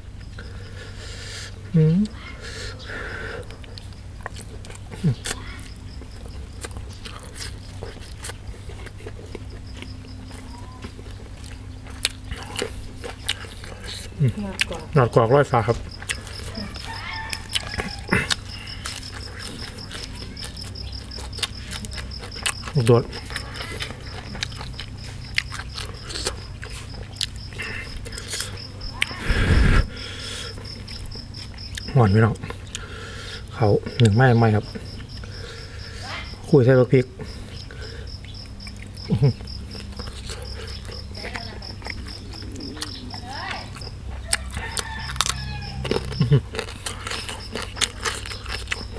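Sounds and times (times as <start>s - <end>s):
steady low hum: 0.0s - 48.9s
man chewing with wet smacks: 2.8s - 36.0s, 36.9s - 48.9s.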